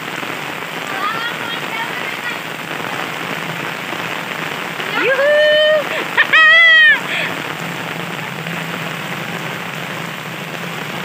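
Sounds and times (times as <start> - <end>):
rain falling on road and foliage: 0.0 - 11.0.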